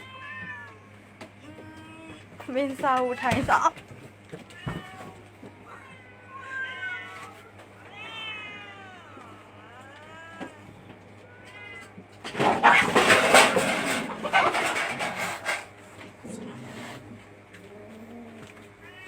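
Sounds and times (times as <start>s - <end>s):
cats meowing: 0.0s - 2.4s, 3.0s - 15.6s, 17.6s - 19.0s.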